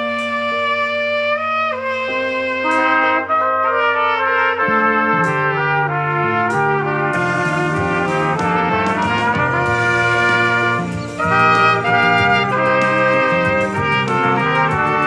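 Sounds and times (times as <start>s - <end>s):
bass line: 0.0s - 15.0s
pop backing track: 0.0s - 15.0s
trumpets playing in harmony: 0.0s - 15.0s.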